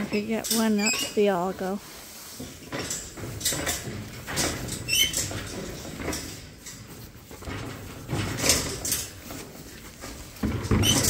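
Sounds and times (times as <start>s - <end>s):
hooves shuffling in straw: 0.2s - 4.7s, 5.3s - 11.0s.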